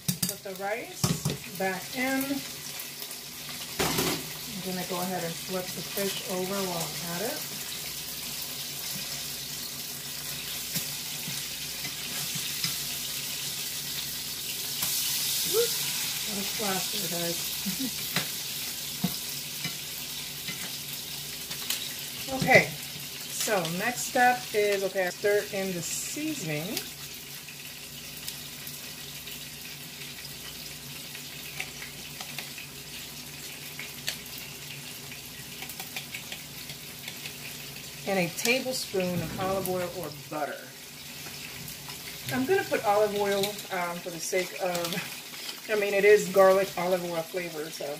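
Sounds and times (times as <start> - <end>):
fish sizzling in a frying pan: 0.0 - 47.9.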